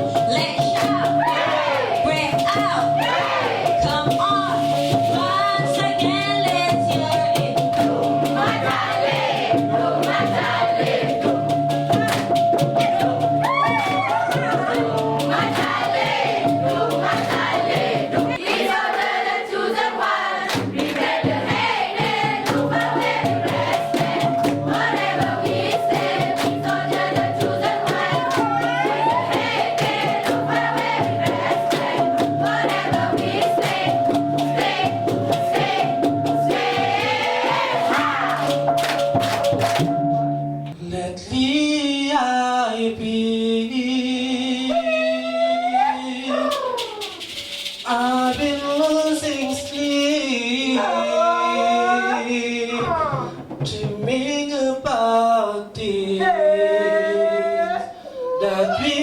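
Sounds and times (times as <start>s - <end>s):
group singing in chorus: 0.0s - 40.0s, 45.8s - 59.0s
steady percussion: 0.0s - 41.6s, 44.8s - 55.2s.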